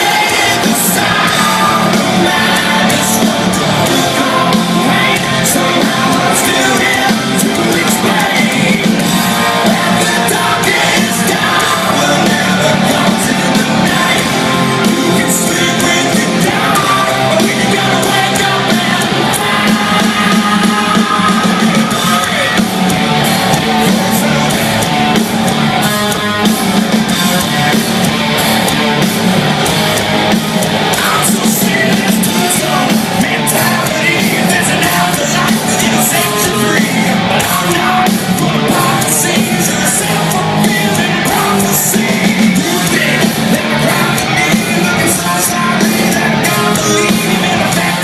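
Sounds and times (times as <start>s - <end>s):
live hard rock band playing: 0.0s - 48.0s.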